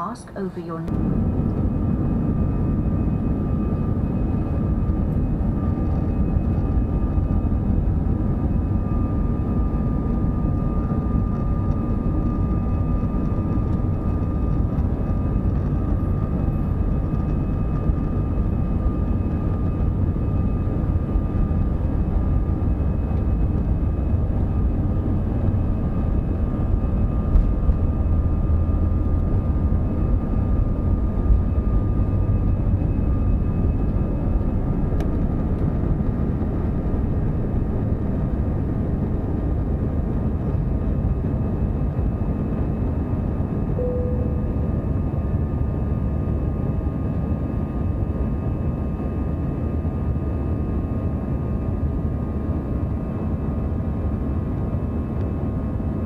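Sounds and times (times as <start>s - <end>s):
high whine: 0.0s - 48.6s
aircraft engine rumble: 0.0s - 56.0s.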